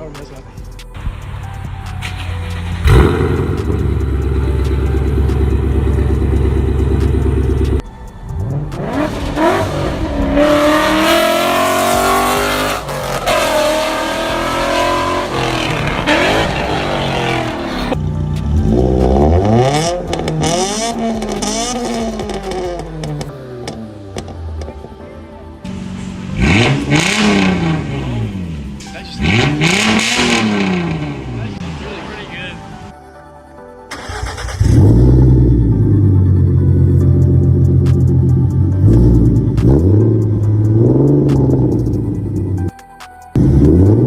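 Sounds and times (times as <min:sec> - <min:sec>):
car engine revving: 0:01.0 - 0:07.8, 0:08.4 - 0:24.7, 0:25.7 - 0:32.9, 0:33.9 - 0:42.7, 0:43.4 - 0:44.0.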